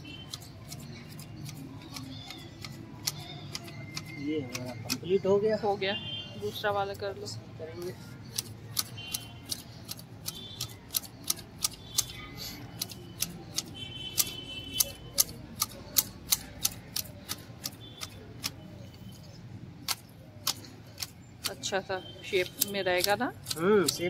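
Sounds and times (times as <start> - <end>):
hedge shears snipping: 0.1 - 5.0, 8.2 - 19.1, 19.8 - 24.0.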